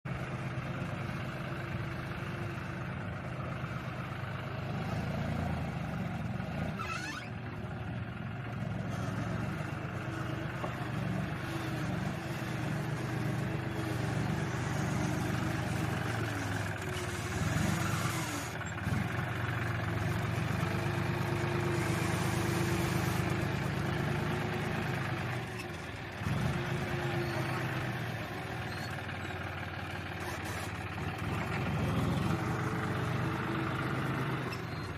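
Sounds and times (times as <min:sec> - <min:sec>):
tractor engine working: 0:00.1 - 0:34.9.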